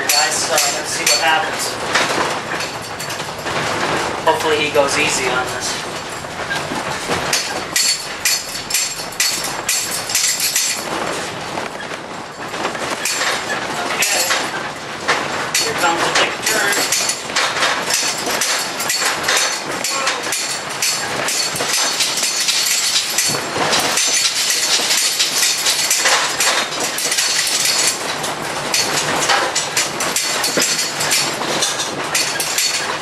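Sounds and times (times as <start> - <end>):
towed house rattling and clattering: 0.0 - 33.0.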